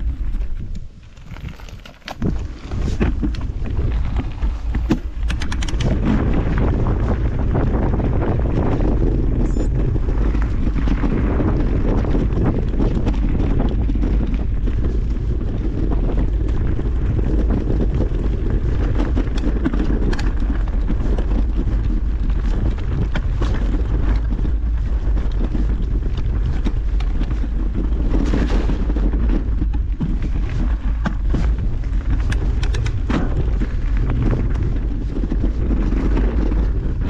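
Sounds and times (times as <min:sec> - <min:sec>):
bike knocks and rattles: 0:00.0 - 0:37.0
tyres rumbling on trail: 0:00.0 - 0:37.0
wind buffeting microphone: 0:00.0 - 0:37.0.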